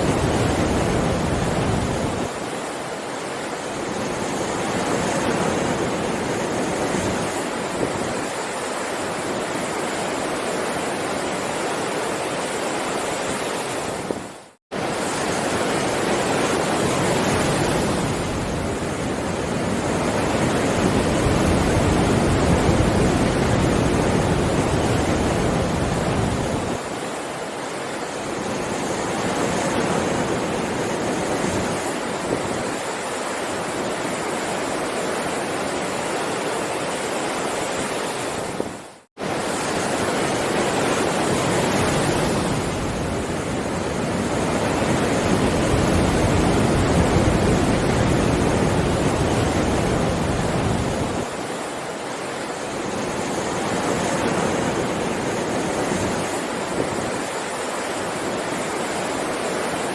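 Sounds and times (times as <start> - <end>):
heavy sea waves washing: 0.0 - 59.9.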